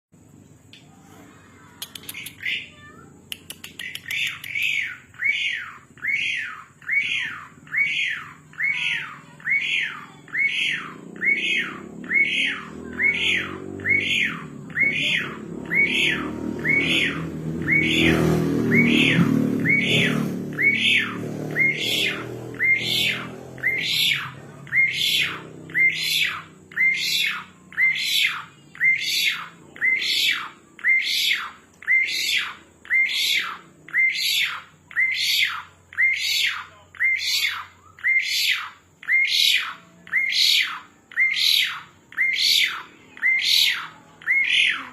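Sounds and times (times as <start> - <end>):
starling squawky calls: 3.7 - 44.9.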